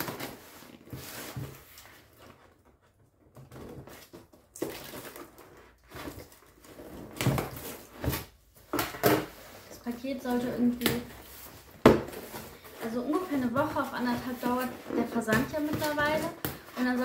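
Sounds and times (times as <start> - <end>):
packaging scraping and rustling: 0.0 - 17.0.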